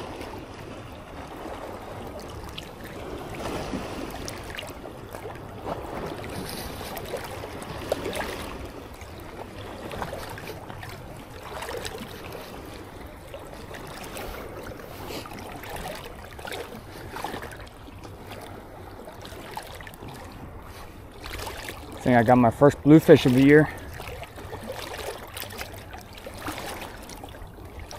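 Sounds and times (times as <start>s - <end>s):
ocean surf washing on beach: 0.0s - 27.9s.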